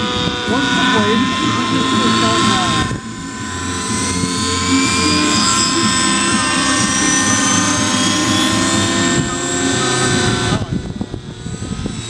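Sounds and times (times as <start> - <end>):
high motor whine: 0.0 - 12.0
model helicopter rotor chopping: 0.0 - 12.0.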